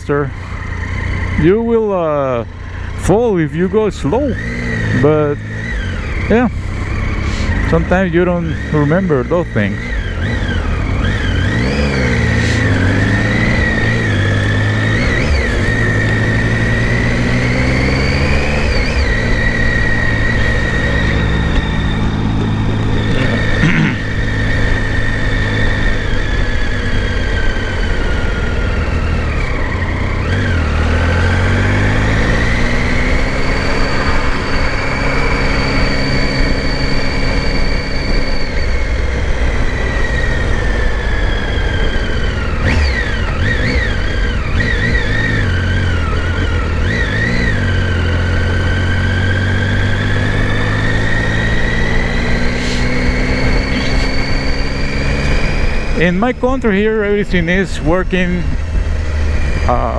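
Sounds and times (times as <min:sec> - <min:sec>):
high whine: 0:00.0 - 0:59.9
motorcycle engine revving: 0:00.0 - 0:59.9
road and wind noise: 0:00.0 - 0:59.9.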